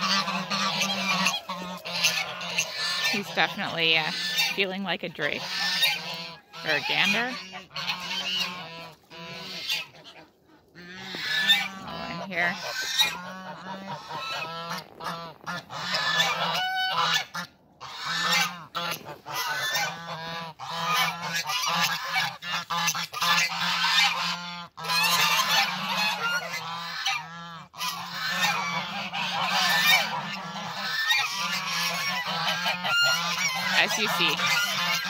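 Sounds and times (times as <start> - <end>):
geese honking: 0.0 - 35.0.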